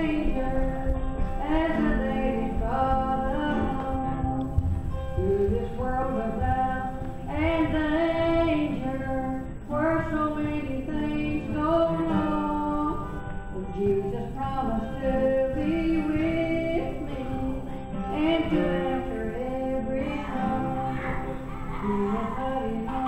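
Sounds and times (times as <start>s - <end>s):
woman singing: 0.0s - 23.0s.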